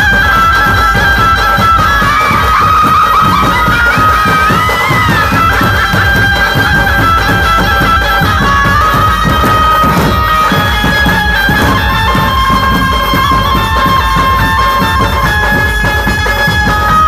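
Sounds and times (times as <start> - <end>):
fast dense drumming: 0.0 - 17.0
held lead melody: 0.0 - 17.0.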